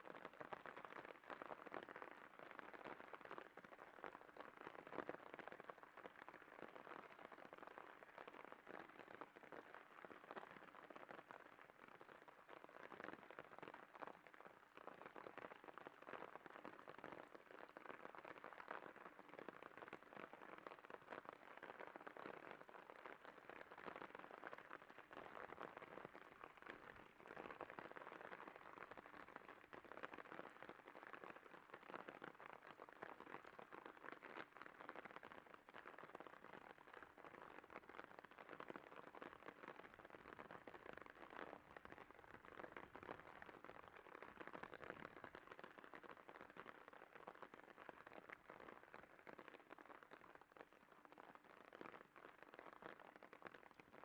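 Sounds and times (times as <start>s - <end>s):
faint crackling hiss: 0.0s - 54.0s.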